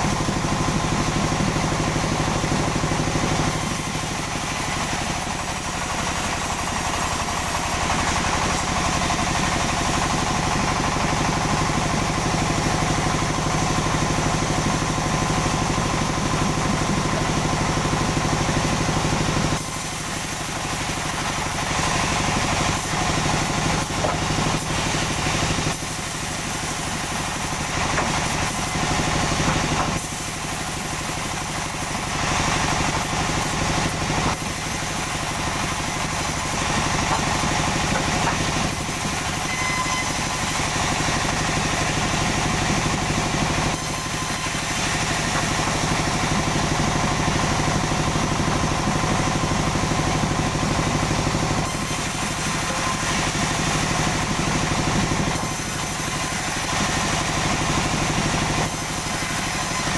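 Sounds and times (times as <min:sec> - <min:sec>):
engine drone: 0:00.0 - 0:59.9
saw noise: 0:00.0 - 0:59.9.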